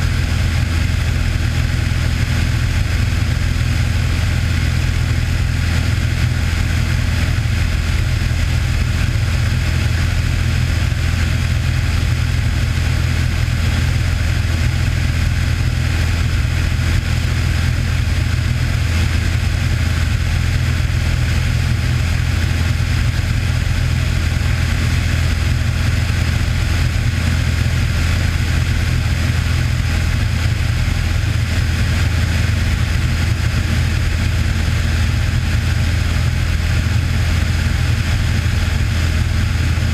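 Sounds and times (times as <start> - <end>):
airplane propeller engine droning: 0.0 - 39.9.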